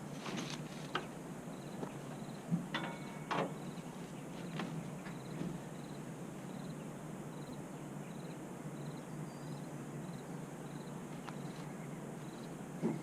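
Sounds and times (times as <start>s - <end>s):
cricket chirping: 0.0s - 13.0s
steady outdoor hiss: 0.0s - 13.0s.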